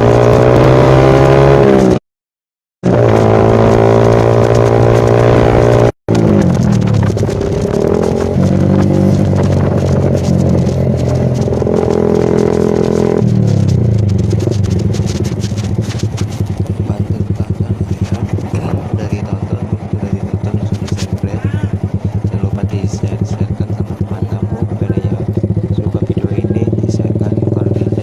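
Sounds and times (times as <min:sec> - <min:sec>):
motorcycle engine revving and idling: 0:00.0 - 0:02.0, 0:02.8 - 0:28.0.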